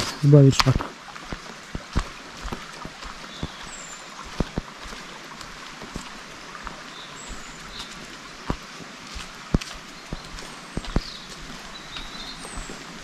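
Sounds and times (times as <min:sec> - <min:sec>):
footsteps on path: 0:00.0 - 0:13.0
river rushing over stones: 0:00.0 - 0:13.0.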